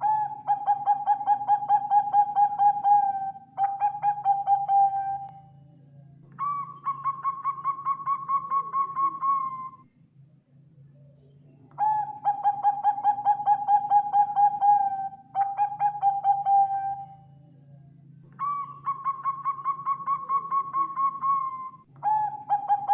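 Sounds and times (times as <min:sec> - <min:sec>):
dove cooing: 0:00.0 - 0:05.5, 0:06.4 - 0:09.8, 0:11.8 - 0:17.2, 0:18.4 - 0:22.9.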